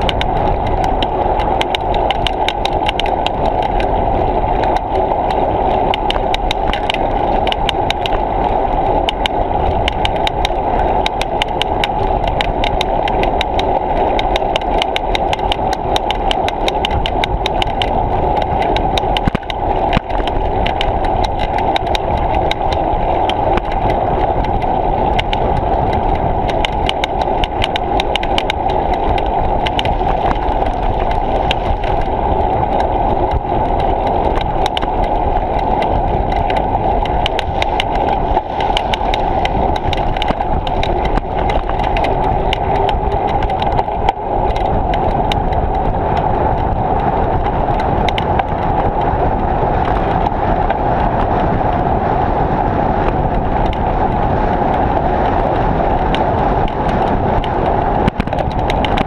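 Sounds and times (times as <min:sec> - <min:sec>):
sharp rattling ticks: 0:00.0 - 0:49.2, 0:53.1 - 0:59.0
bicycle rolling rumble: 0:00.0 - 0:59.0.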